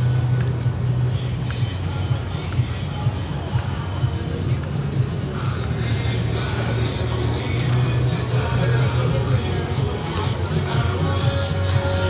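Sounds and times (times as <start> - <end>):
city traffic: 0.0 - 12.0
music playing: 0.0 - 12.0.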